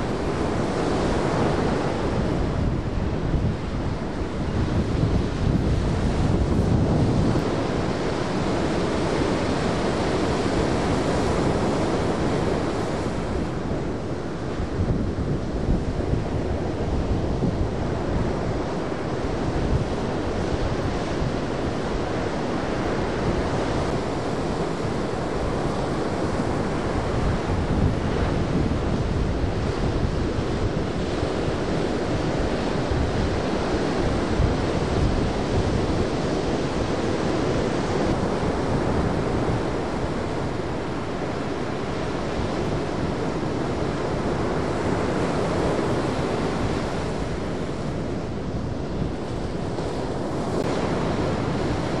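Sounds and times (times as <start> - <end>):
ocean surf breaking: 0.0 - 52.0
wind buffeting microphone: 0.0 - 52.0.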